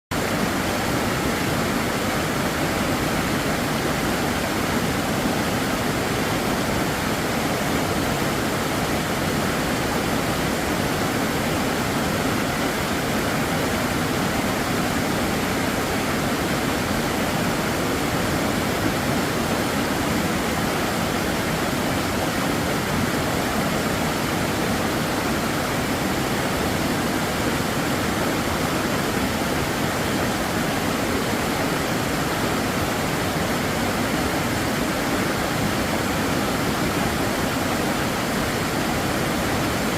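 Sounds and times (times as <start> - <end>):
stream rushing: 0.1 - 39.9.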